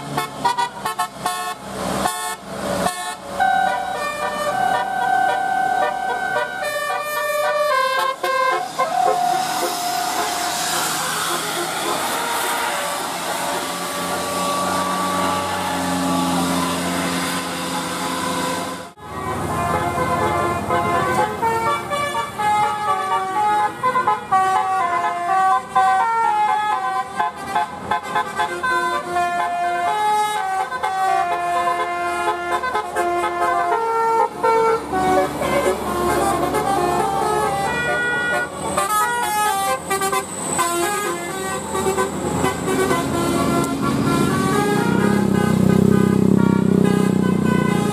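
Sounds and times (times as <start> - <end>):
bus air horns playing melody: 0.0 - 47.9
road traffic noise: 0.0 - 47.9.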